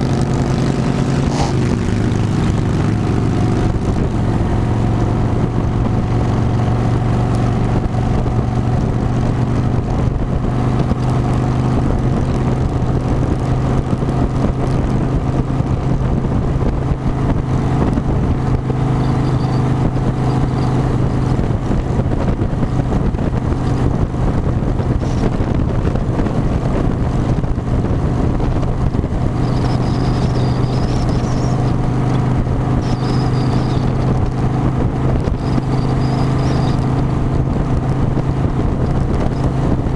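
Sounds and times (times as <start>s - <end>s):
wind rushing: 0.0s - 19.0s, 19.6s - 32.8s
motorcycle engine cruising: 0.0s - 39.9s.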